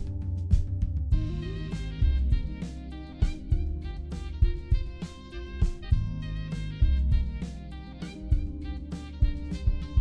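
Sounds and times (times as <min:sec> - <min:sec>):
drum beat: 0:00.0 - 0:10.0
guitar: 0:00.0 - 0:10.0.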